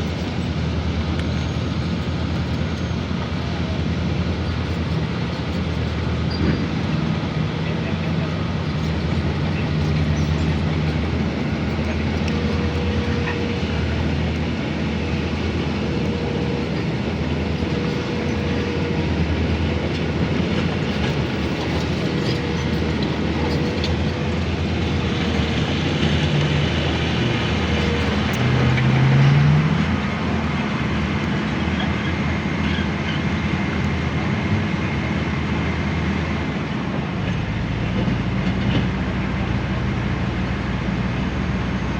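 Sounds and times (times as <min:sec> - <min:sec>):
heavy diesel machinery rumbling: 0:00.0 - 0:41.9.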